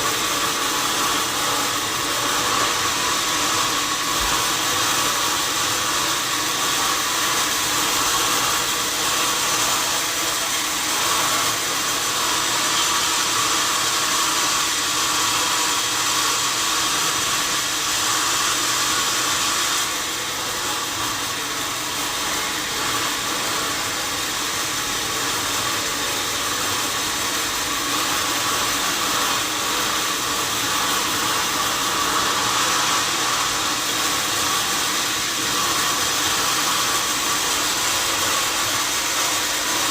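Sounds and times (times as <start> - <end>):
saw whirring through wood: 0.0 - 39.9.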